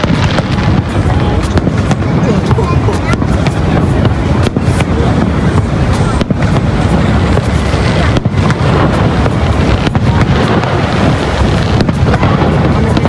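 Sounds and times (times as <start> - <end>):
fireworks banging and crackling: 0.0 - 13.0.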